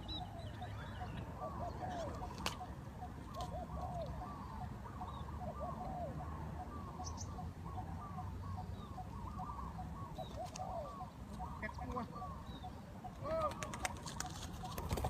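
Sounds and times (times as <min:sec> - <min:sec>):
many birds calling: 0:00.0 - 0:15.0.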